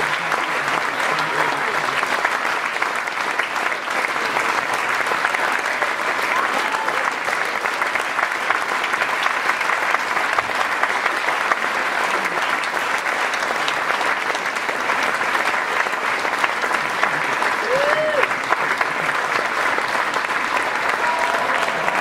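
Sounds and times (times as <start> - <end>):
audience applause: 0.0 - 22.0.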